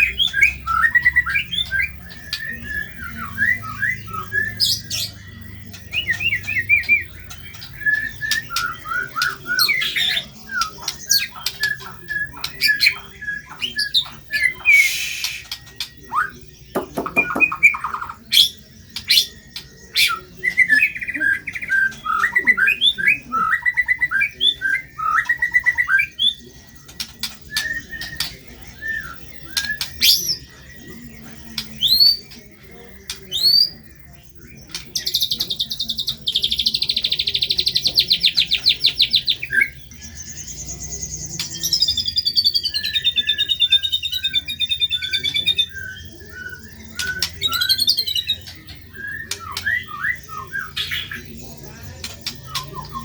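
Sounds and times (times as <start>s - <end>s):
bird singing whistles and trills: 0.0s - 53.0s.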